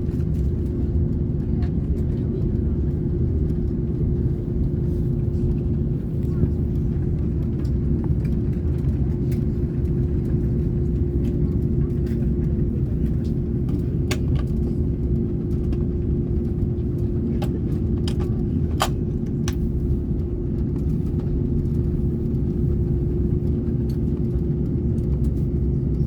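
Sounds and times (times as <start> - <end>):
aircraft cabin engine rumble: 0.0 - 26.0.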